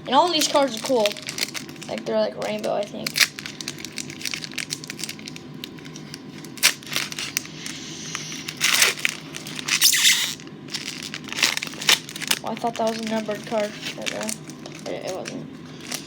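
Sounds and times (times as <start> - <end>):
wrapper crinkling and rustling: 0.1 - 16.0.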